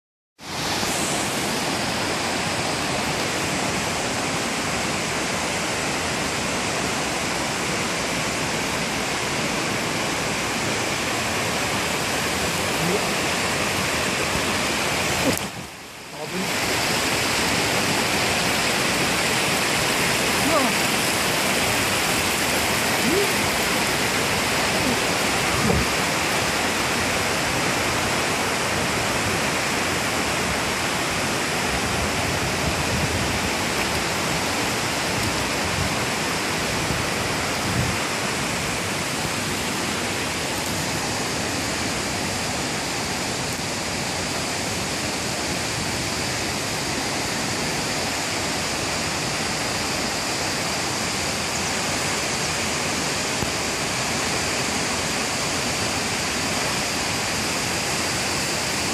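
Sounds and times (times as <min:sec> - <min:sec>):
waterfall rushing: 0:00.4 - 0:58.9.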